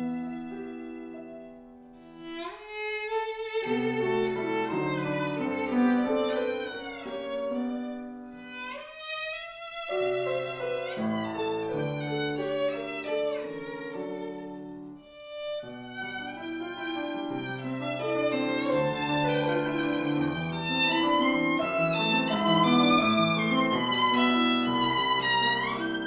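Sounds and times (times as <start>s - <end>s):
violin playing slow melody: 0.0s - 26.0s.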